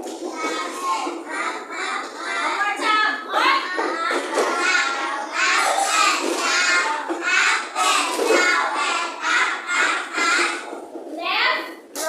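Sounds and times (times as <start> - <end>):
children singing together: 0.2 - 2.8, 3.5 - 10.8.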